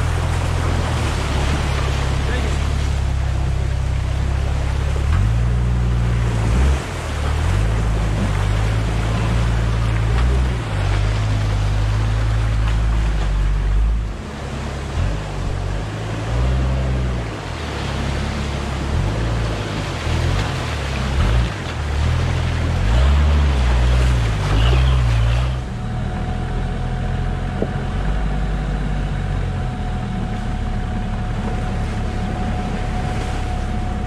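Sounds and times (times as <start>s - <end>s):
diesel engine rumble: 0.0s - 34.0s
water splashing from tyres: 0.0s - 34.0s.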